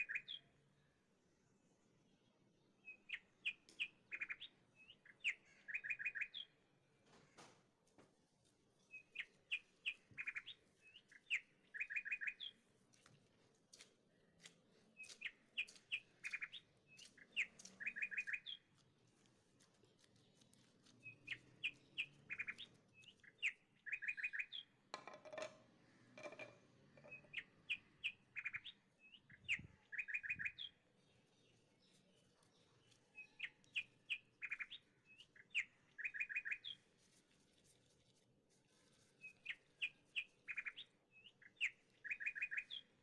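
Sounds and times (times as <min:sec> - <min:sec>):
songbird singing chirps and trill: 0:00.0 - 0:07.0, 0:08.4 - 0:43.0.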